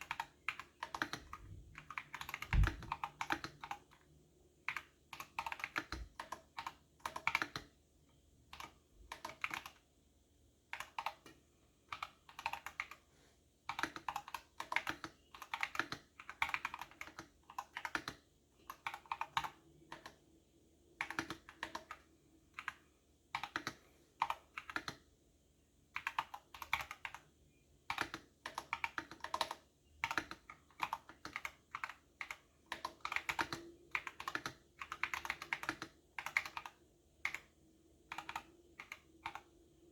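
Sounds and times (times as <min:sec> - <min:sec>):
typing on a computer keyboard: 0:00.0 - 0:07.8, 0:08.4 - 0:09.9, 0:10.6 - 0:20.3, 0:20.9 - 0:25.1, 0:25.9 - 0:39.8.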